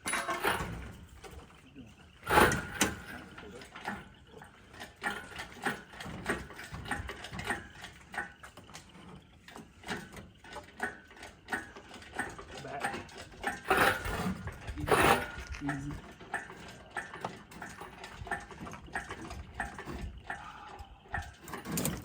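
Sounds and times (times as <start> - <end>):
lifting gear clicks and creaks: 0.0 - 22.0.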